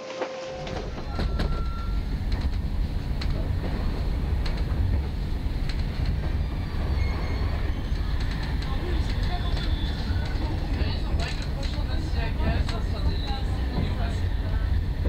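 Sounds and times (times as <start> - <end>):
train rumble inside carriage: 0.0 - 15.0
wheels clicking on track: 0.7 - 15.0.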